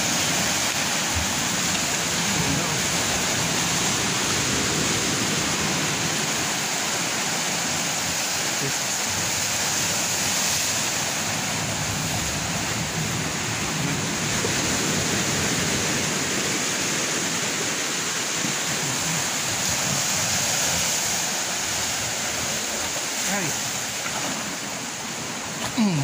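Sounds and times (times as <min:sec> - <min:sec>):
sea waves breaking on rocks: 0:00.0 - 0:26.0.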